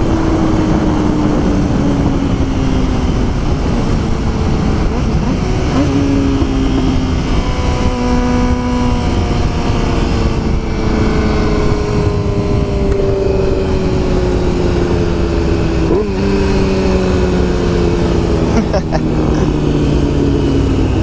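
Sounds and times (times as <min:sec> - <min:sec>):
motorcycle engine running: 0:00.0 - 0:21.0
wind and road rush: 0:00.0 - 0:21.0.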